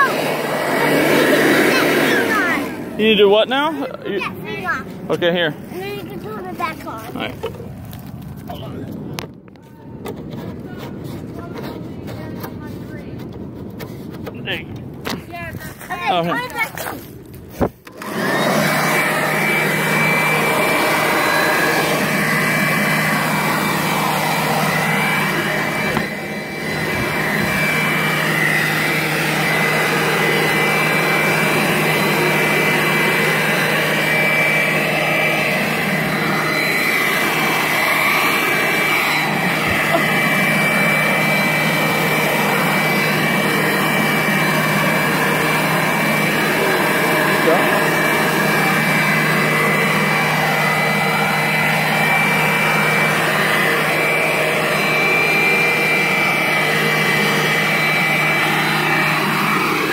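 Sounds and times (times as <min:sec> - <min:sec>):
electric leaf blower running: 0:00.0 - 0:09.2, 0:10.0 - 0:59.9.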